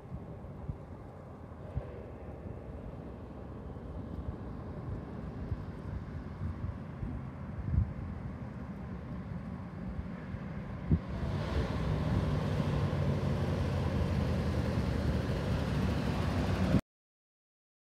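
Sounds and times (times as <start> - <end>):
truck engine rumble: 2.2 - 16.8.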